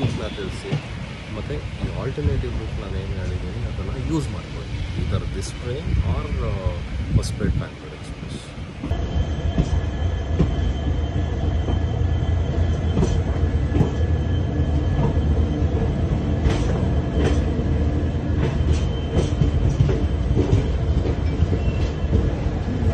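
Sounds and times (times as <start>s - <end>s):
train wheels rumbling: 0.0s - 22.9s.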